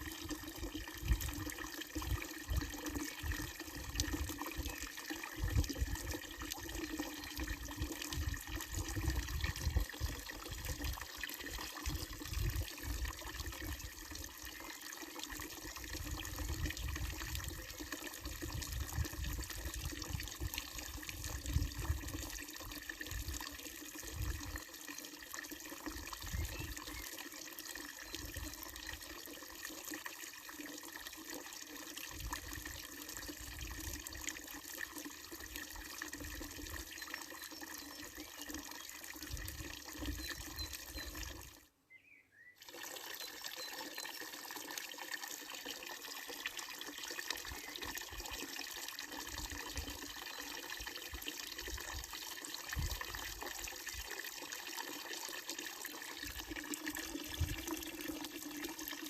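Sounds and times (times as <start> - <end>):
fountain water splashing into basin: 0.0 - 41.6, 42.6 - 59.0.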